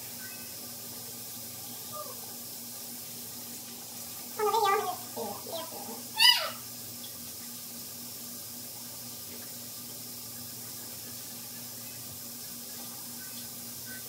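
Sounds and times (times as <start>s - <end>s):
faint low hum: 0.0s - 14.0s
tap water running: 0.0s - 14.0s.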